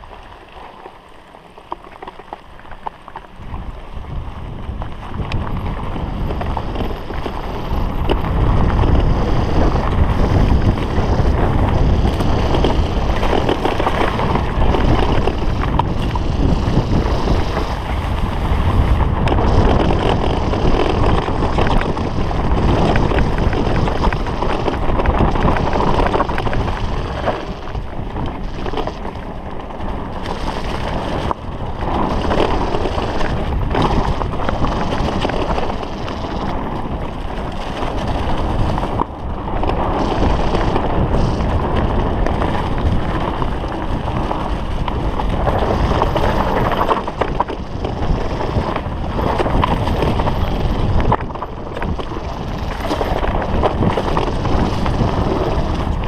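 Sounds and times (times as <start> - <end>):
tyres rumbling on bumpy trail: 0.0 - 56.0
wind buffeting microphone: 3.4 - 56.0.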